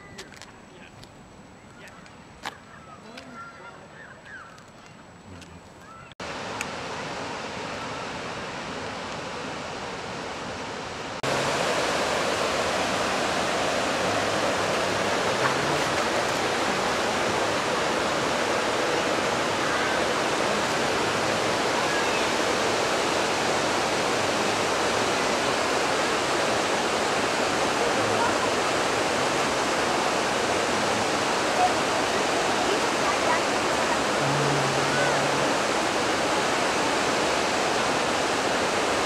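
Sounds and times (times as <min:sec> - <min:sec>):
waterfall rushing over boulders: 0:06.2 - 0:39.0.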